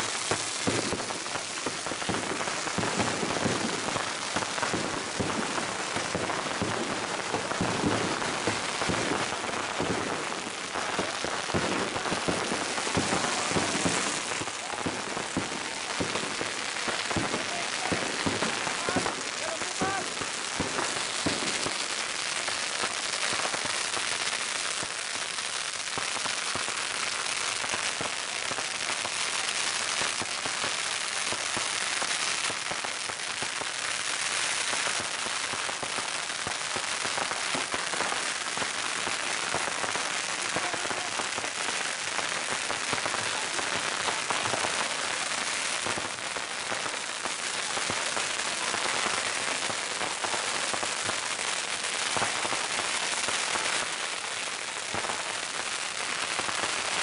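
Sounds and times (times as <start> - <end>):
firecrackers exploding: 0.0 - 57.0.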